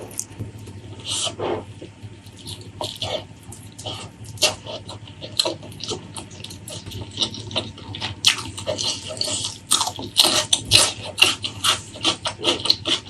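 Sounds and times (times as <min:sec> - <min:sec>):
wet chewing and lip-smacking: 0:01.8 - 0:13.0.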